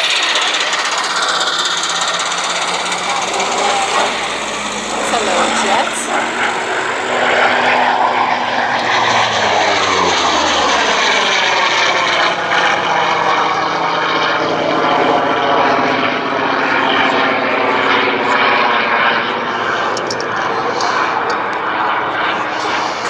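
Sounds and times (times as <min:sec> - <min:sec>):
propeller aircraft flying past: 0:00.0 - 0:23.0.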